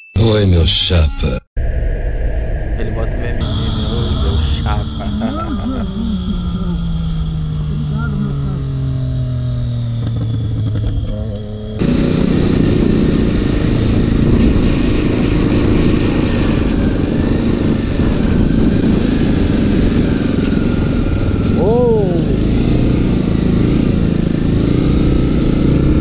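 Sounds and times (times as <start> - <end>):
road noise: 3.0 - 26.0
motorcycle engine humming: 3.4 - 26.0
rough motorcycle engine: 4.4 - 26.0.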